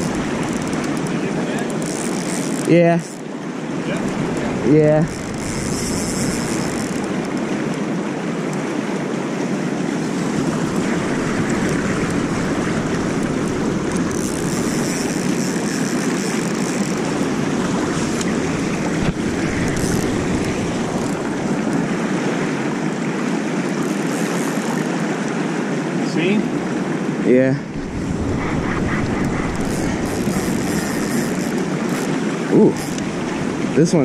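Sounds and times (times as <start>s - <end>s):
river current rushing: 0.0s - 34.0s.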